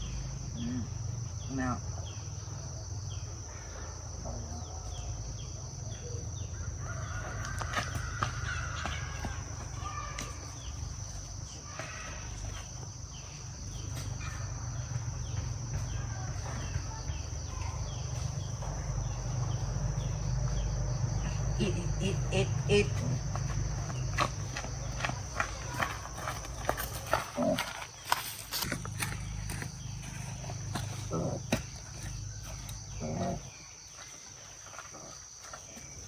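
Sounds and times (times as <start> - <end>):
crickets droning: 0.0 - 36.0.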